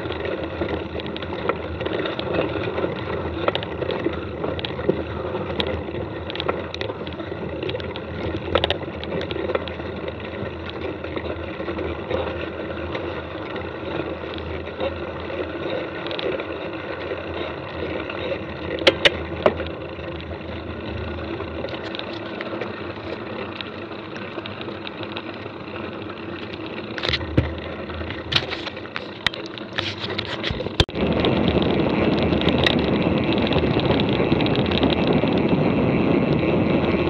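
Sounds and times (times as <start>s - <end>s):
bike knocking and rattling: 0.0s - 37.0s.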